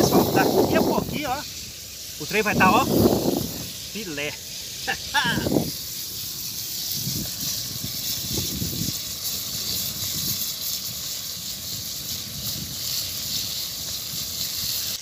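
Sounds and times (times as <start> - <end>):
wind rumbling on microphone: 0.0 - 1.6, 2.2 - 4.1, 5.1 - 14.8
fish sizzling in a pan: 0.0 - 15.0.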